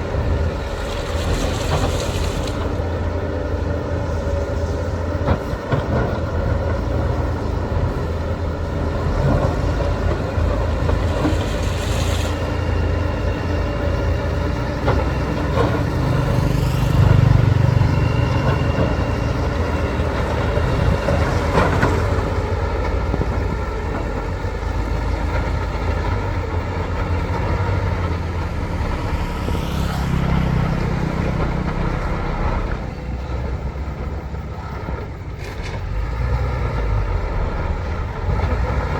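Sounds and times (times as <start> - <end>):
diesel machinery engine revving: 0.0 - 38.9.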